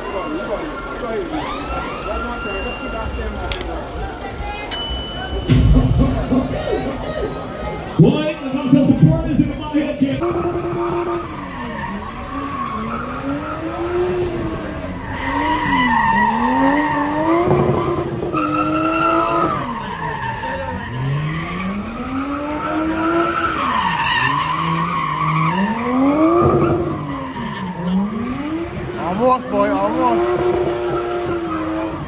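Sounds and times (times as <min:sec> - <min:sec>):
car engine revving: 0:00.0 - 0:04.7, 0:05.5 - 0:32.0
tyres skidding and squealing: 0:00.0 - 0:32.0.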